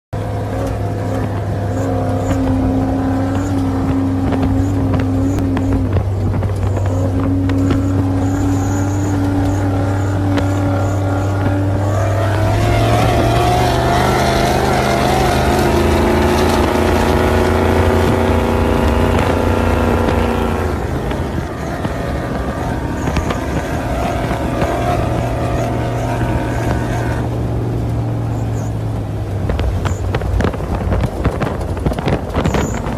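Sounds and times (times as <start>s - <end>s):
truck engine idling and revving: 0.1s - 32.9s.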